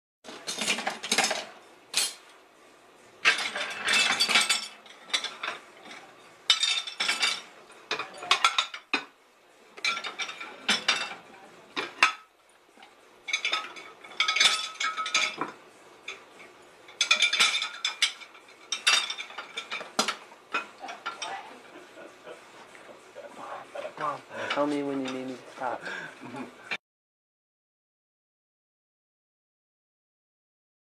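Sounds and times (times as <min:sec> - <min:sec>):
dishes and cutlery clinking: 0:00.3 - 0:02.3, 0:03.2 - 0:09.2, 0:09.8 - 0:26.8.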